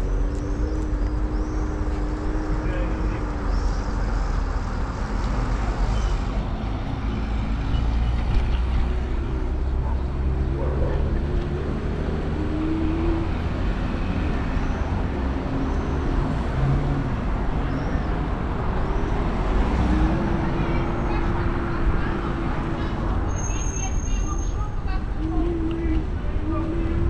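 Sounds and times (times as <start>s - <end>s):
cars passing: 0.0s - 27.0s
road traffic rumble: 0.0s - 27.0s.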